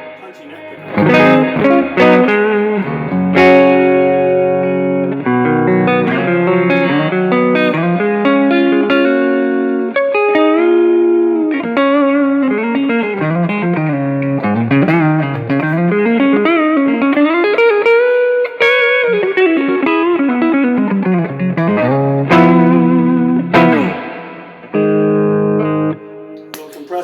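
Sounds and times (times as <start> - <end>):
electric guitar melodic runs: 0.0 - 26.7
strummed guitar chords: 0.0 - 27.0.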